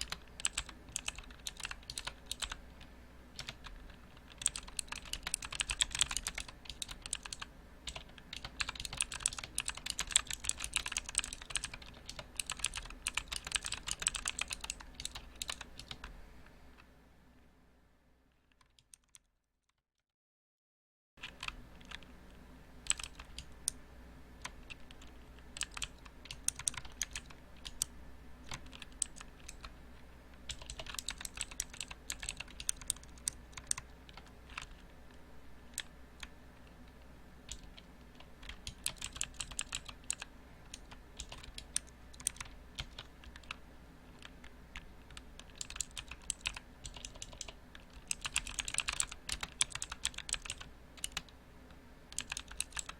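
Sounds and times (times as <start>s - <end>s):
mechanical keyboard typing: 0.0s - 16.1s, 21.2s - 22.1s, 22.8s - 23.8s, 24.4s - 29.7s, 30.3s - 51.3s, 52.1s - 52.9s
low steady hum: 0.0s - 19.2s, 21.2s - 52.9s.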